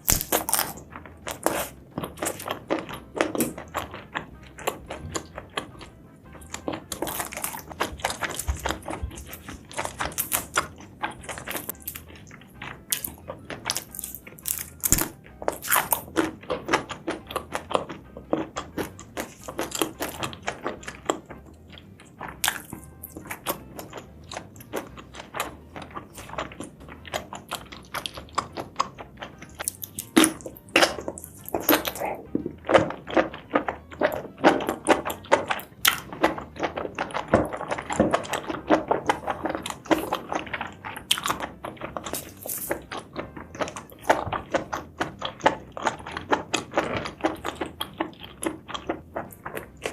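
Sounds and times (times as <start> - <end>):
close chewing crunches: 0.0 - 49.9.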